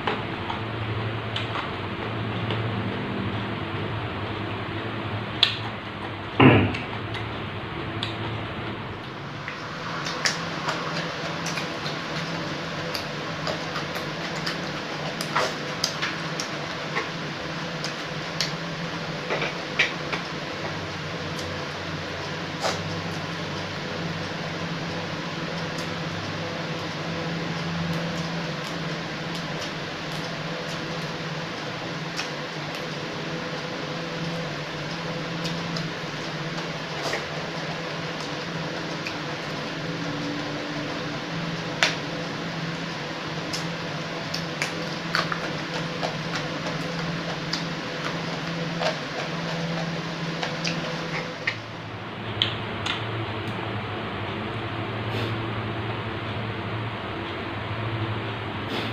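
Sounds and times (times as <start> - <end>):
fan-like hum and hiss: 0.0 - 58.9
chewing raw vegetables: 4.3 - 53.6.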